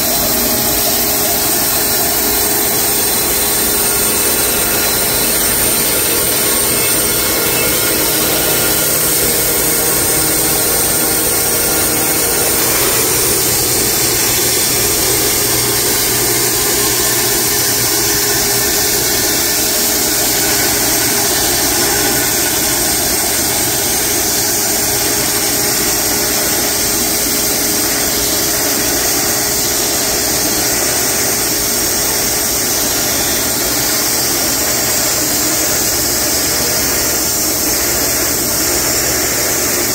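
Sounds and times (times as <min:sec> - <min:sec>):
bandsaw mill cutting log: 0:00.0 - 0:39.9.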